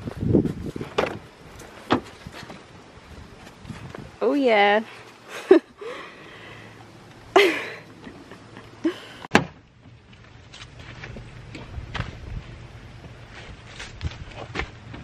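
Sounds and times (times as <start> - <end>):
low steady hum: 1.2 - 15.0.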